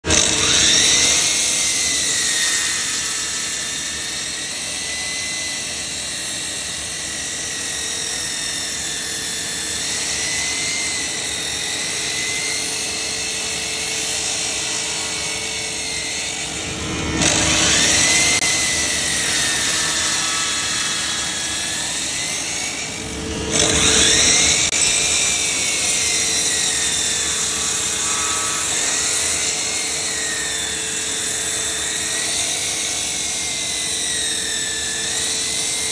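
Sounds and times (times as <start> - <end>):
miter saw whining: 0.0 - 35.9
saw blade cutting wood: 0.0 - 35.9.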